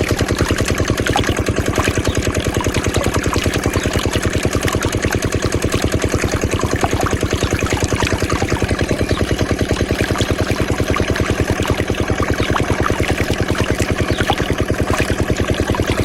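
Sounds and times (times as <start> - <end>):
small engine running a water pump: 0.0 - 16.0.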